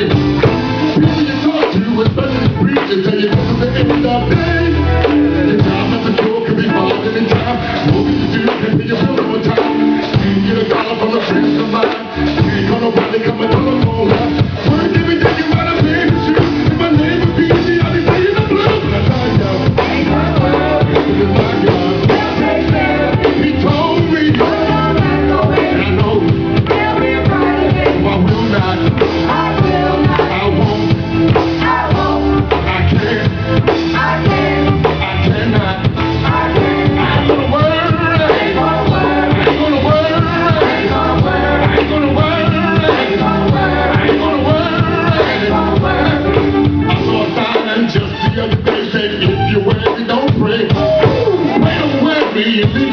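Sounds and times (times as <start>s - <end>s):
drum kit beat: 0.0s - 52.9s
live gospel band music: 0.0s - 52.9s.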